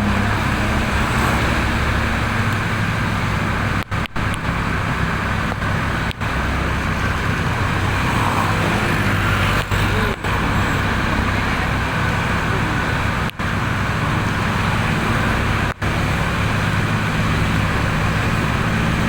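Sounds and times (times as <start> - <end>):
bus engine running: 0.0 - 19.0
traffic and road noise: 0.0 - 19.0.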